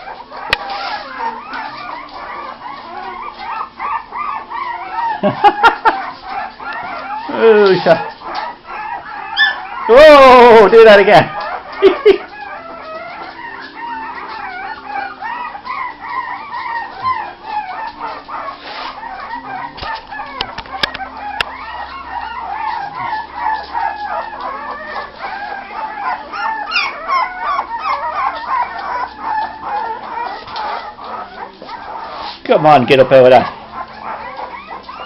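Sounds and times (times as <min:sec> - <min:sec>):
puppies whining and squeaking: 0:00.0 - 0:35.0.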